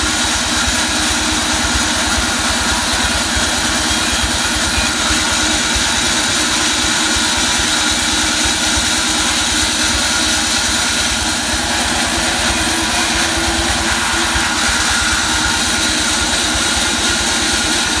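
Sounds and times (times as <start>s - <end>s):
band saw cutting boards: 0.0s - 18.0s.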